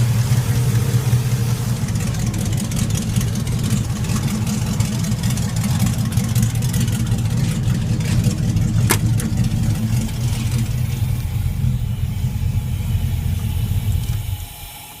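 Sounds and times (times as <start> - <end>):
engine exhaust rumble: 0.0 - 15.0.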